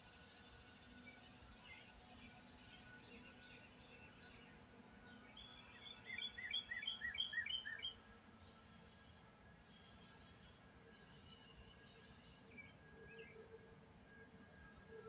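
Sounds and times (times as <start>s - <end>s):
faint high insect trill: 0.0s - 15.0s.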